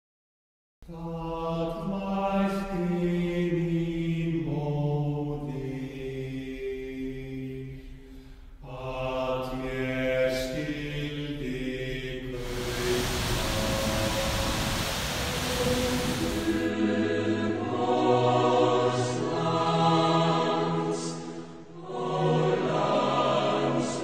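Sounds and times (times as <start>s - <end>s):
slow chant-like vocal tones: 0.8s - 24.0s.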